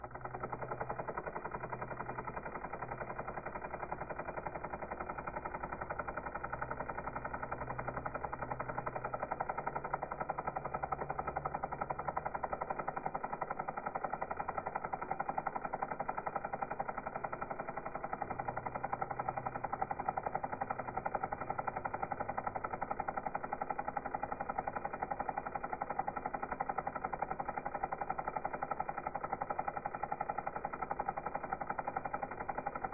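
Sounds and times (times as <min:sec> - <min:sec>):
helicopter rotor chopping: 0:00.0 - 0:32.9.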